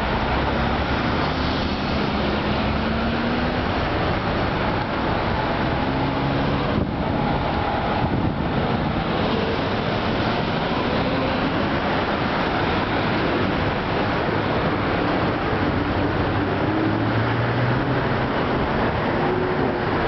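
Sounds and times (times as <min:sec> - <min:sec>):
road traffic: 0:00.0 - 0:20.0
vehicle accelerating: 0:00.0 - 0:20.0.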